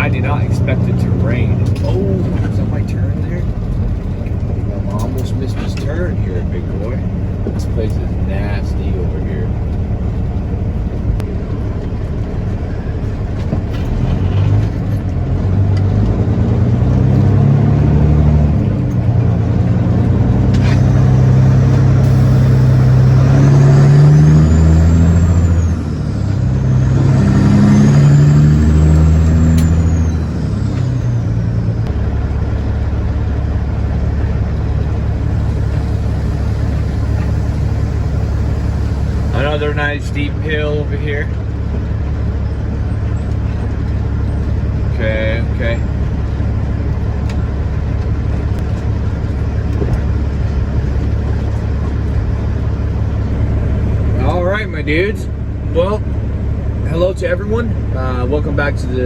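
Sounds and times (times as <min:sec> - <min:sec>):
diesel truck engine pulling hard: 0:00.0 - 0:59.0.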